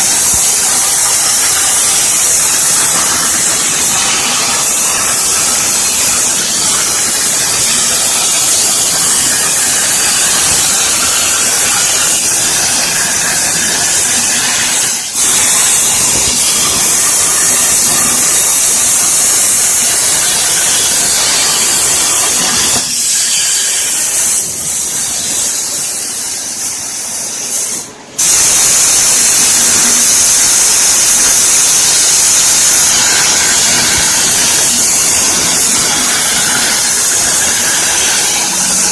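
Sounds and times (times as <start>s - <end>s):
plasma torch hissing roar: 0.0s - 38.9s.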